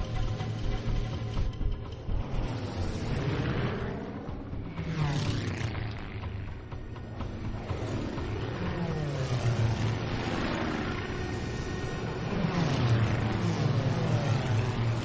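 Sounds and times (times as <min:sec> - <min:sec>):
propeller warplanes droning overhead: 0:00.0 - 0:15.0.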